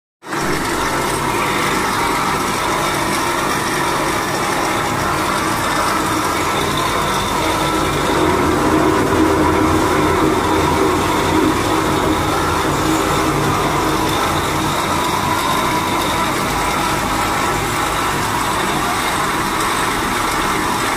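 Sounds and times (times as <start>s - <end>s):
crusher machine humming: 0.3s - 20.9s.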